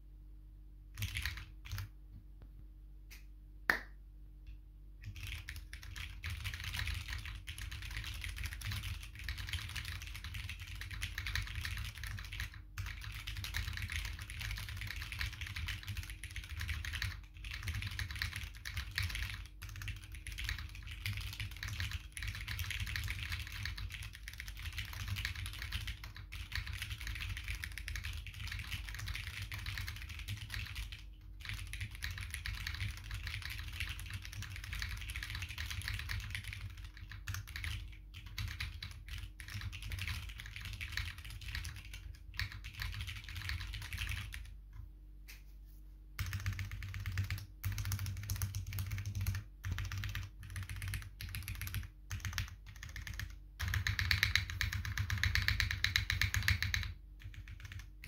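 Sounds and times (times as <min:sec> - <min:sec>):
typing on mechanical keyboard: 0:01.0 - 0:01.9, 0:05.0 - 0:44.6, 0:46.2 - 0:58.0.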